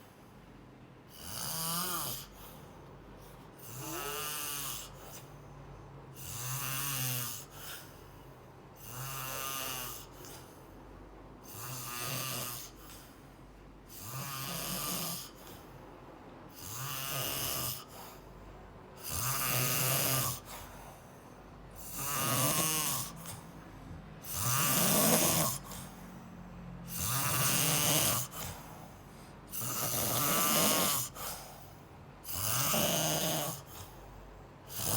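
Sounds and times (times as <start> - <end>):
rhythmic snoring: 1.1 - 34.9.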